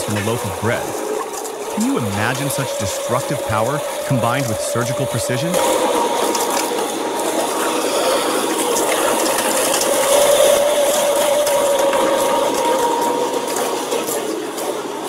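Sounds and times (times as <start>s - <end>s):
machine hum: 0.0s - 14.2s.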